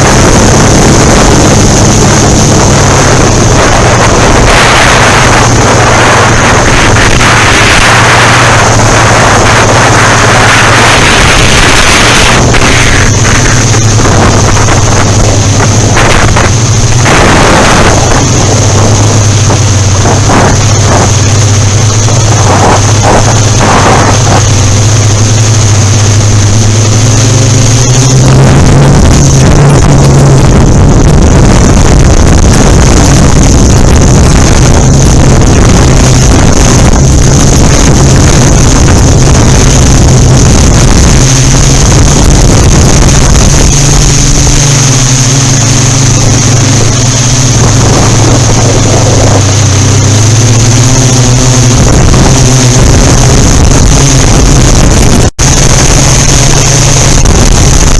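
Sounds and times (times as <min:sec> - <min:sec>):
quadcopter drone hovering: 0:00.0 - 0:57.9
thin high whine: 0:00.0 - 0:57.9
wind noise on microphone: 0:00.0 - 0:57.9.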